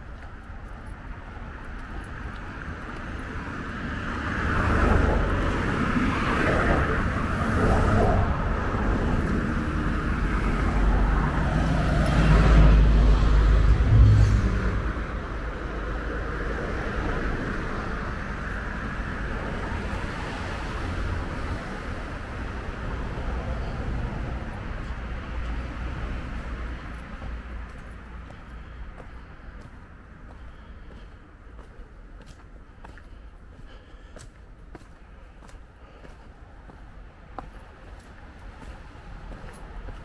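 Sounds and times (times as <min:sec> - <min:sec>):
traffic passing: 0:00.0 - 0:40.0.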